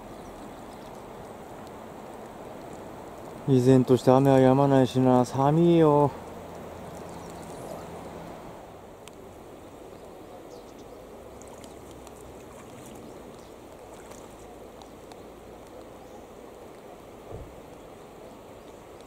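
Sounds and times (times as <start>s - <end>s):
light rain ticks: 0.0s - 8.3s, 8.9s - 19.0s
river flowing over rocks: 0.0s - 19.0s.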